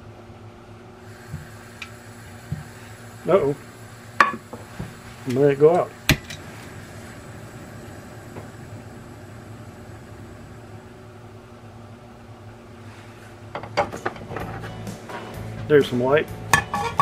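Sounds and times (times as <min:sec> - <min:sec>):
gas stove burner hissing: 0:00.8 - 0:17.0.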